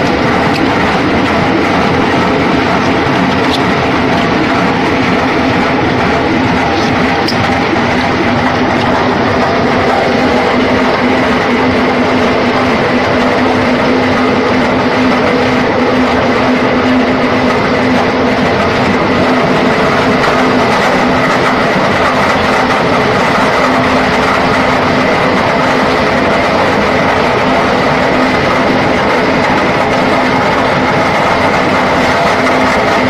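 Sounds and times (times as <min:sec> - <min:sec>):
pipe-making machine running: 0:00.0 - 0:33.0.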